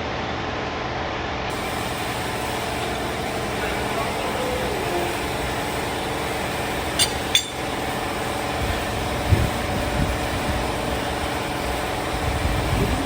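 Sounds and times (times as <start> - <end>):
sharp metallic clicks: 1.5 - 12.6
engine idling: 1.5 - 13.0.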